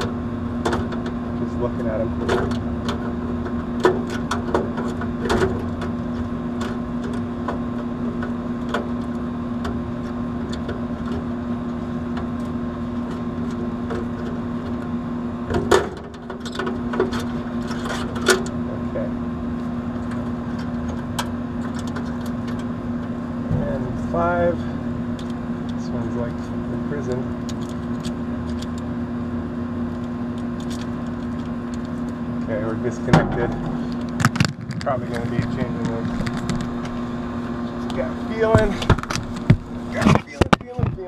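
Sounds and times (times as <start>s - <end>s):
air conditioner unit humming: 0.0s - 41.0s.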